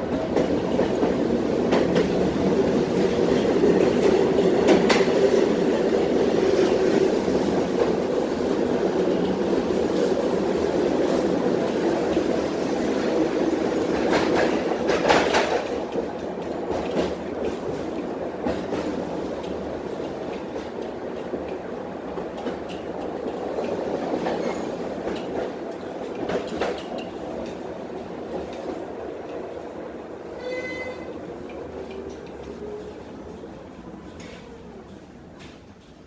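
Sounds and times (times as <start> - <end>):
track knocks and clacks: 0.0 - 32.7
tram wheels rumbling on rails: 0.0 - 36.0.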